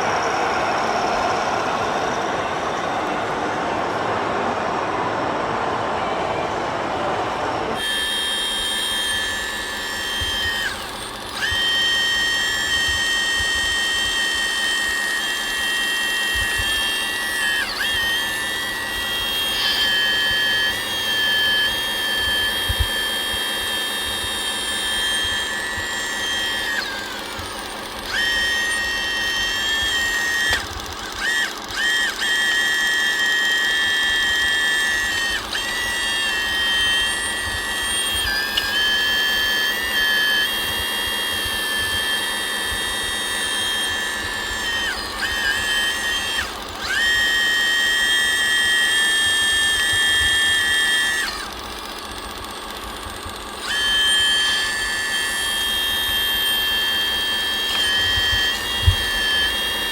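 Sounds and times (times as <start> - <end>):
small electric motor whining: 0.0 - 59.9.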